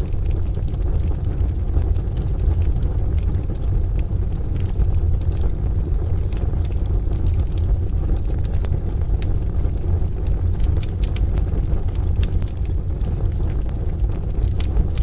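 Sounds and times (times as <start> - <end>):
deep rumble: 0.0 - 15.0
wood fire crackling and popping: 0.0 - 15.0.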